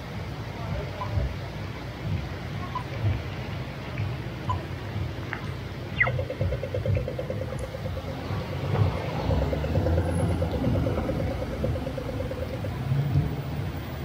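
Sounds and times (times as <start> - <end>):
city traffic rumble: 0.0 - 14.0
rain: 0.0 - 14.0
crossing signal ticking: 2.0 - 14.0.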